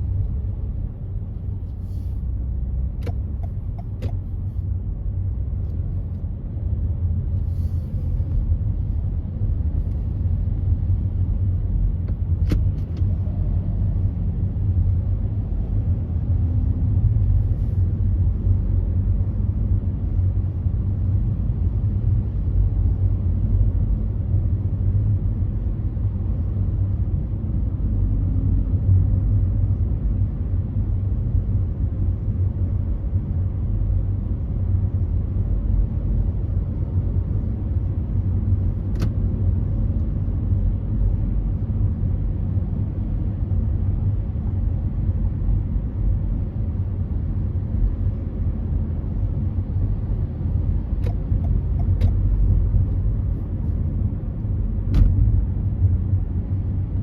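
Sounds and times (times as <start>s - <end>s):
car driving at freeway speed: 0.0s - 57.0s.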